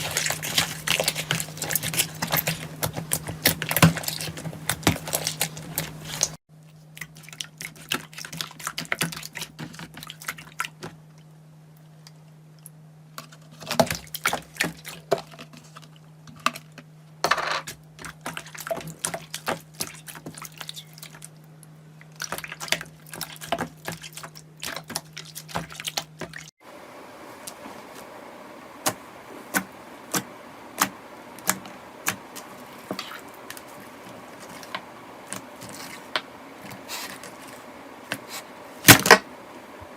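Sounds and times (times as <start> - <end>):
slime squelching by hand: 0.0 - 11.2, 13.3 - 16.5, 17.7 - 26.5, 28.8 - 39.2.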